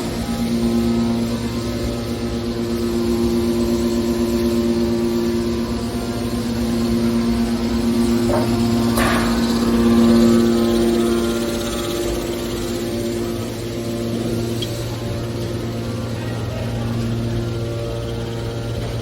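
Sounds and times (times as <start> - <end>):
hydraulic baler humming: 0.0 - 19.0.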